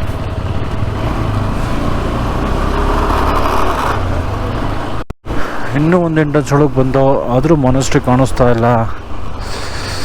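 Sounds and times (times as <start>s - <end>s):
road and wind noise: 0.0s - 10.0s.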